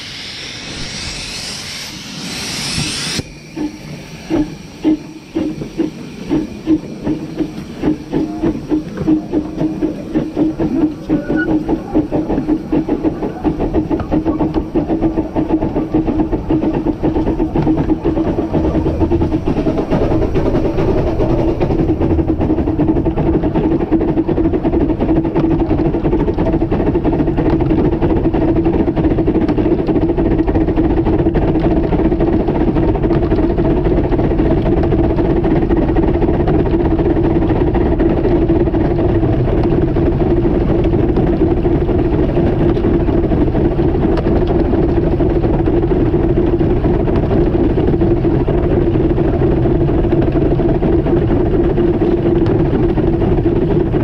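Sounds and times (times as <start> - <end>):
steam locomotive running: 0.0 - 54.0.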